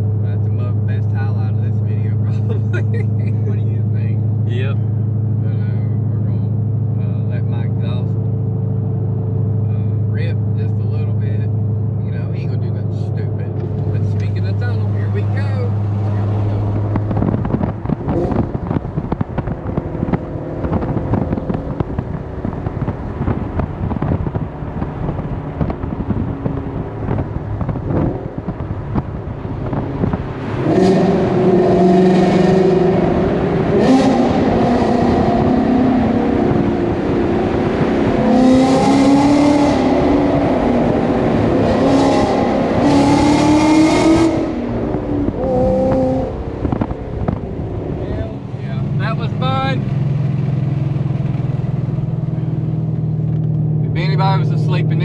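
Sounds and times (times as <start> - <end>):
car engine revving in tunnel: 0.0 - 55.0.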